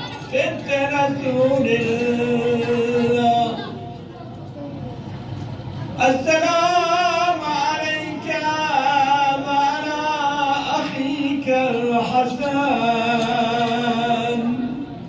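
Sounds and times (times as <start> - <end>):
man chanting into a microphone: 0.3 - 3.8, 6.0 - 15.0.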